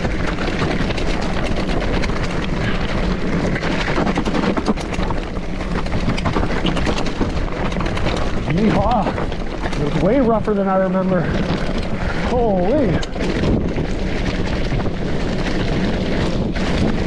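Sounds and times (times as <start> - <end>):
bike frame and chain clattering: 0.0 - 17.0
tyres crunching over stones: 0.0 - 17.0.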